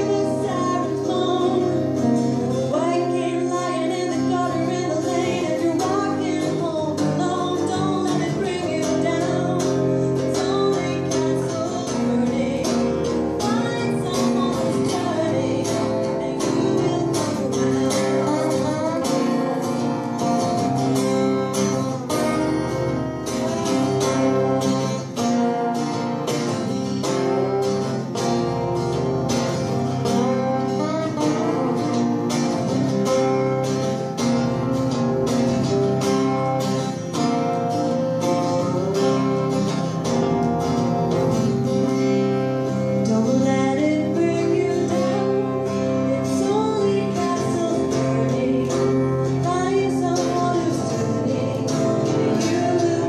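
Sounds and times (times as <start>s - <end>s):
woman singing: 0.0s - 28.2s, 29.4s - 33.9s, 42.6s - 53.0s
acoustic guitars strumming: 0.0s - 53.0s.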